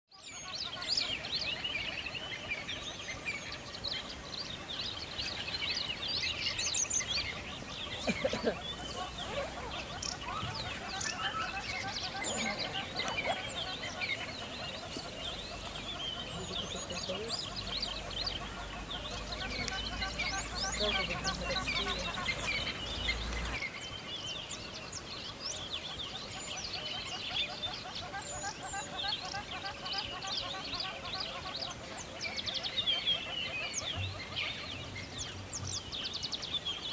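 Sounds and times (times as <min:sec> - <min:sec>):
small birds chirping and trilling: 0:00.1 - 0:36.9.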